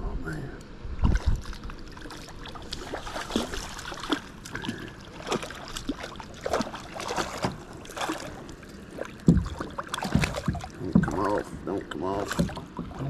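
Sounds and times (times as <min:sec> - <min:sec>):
water splashing: 0:01.0 - 0:13.0.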